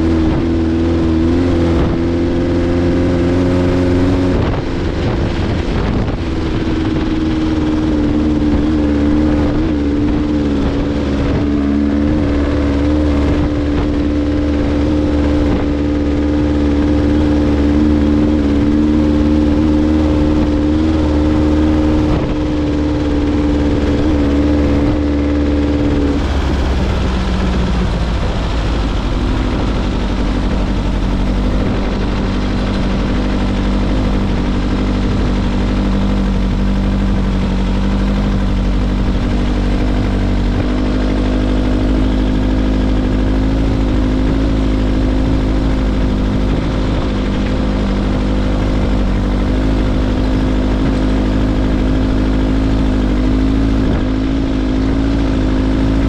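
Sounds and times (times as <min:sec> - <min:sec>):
buggy engine running: 0:00.0 - 0:56.0
wind: 0:00.0 - 0:56.0.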